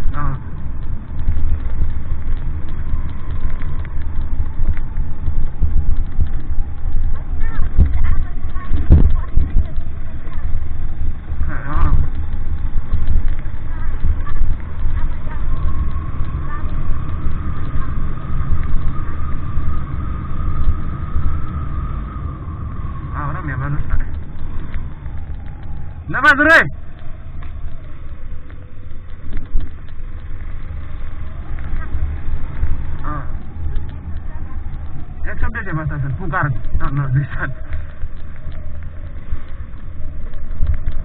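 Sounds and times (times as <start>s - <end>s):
constant tone: 0.0s - 41.0s
faint clicks and rattles: 0.0s - 41.0s
vehicle rumbling: 0.0s - 41.0s.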